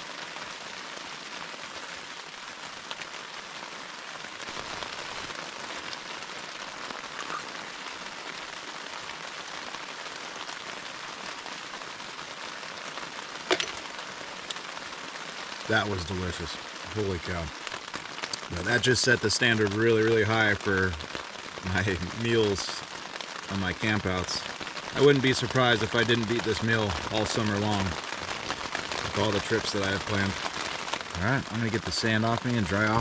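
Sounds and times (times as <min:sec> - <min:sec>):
rain pattering on a tent: 0:00.0 - 0:33.0.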